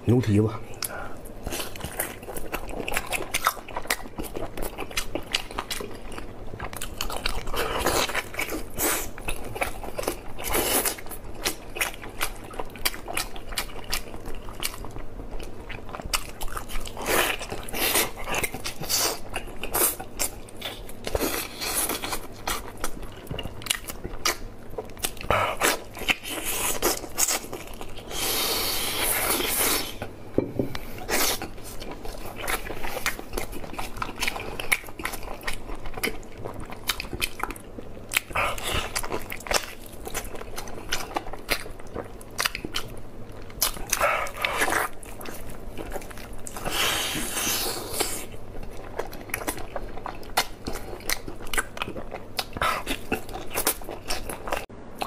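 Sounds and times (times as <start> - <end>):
wet chewing and lip-smacking: 0.8 - 30.0, 31.0 - 55.0.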